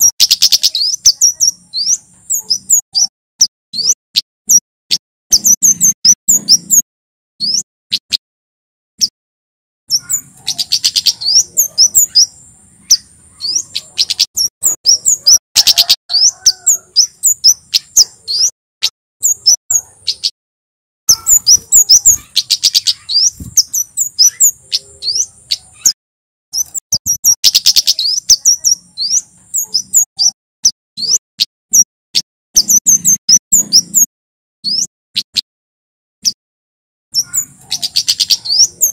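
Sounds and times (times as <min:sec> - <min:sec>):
songbird chirping and twittering: 0:00.0 - 0:06.8, 0:07.4 - 0:08.2, 0:09.0 - 0:09.2, 0:09.9 - 0:20.4, 0:21.1 - 0:35.5, 0:36.2 - 0:36.4, 0:37.1 - 0:38.9.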